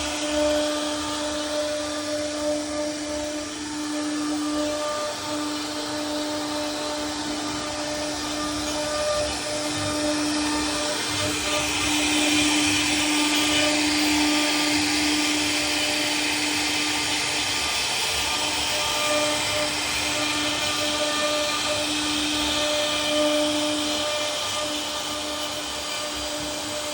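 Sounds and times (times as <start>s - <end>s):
bit cutting wood: 0.0s - 26.9s
router spindle whining: 0.0s - 26.9s.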